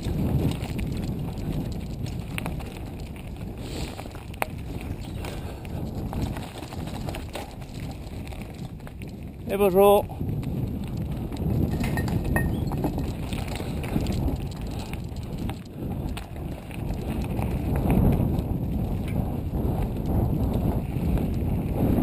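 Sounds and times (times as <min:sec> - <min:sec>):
bike knocking and rattling: 0:00.0 - 0:22.0
bike tyres rumbling on dirt: 0:00.0 - 0:22.0.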